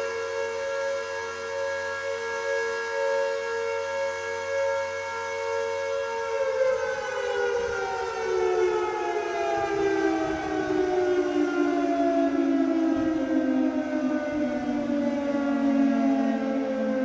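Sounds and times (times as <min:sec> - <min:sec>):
air raid siren winding down: 0:00.0 - 0:17.0.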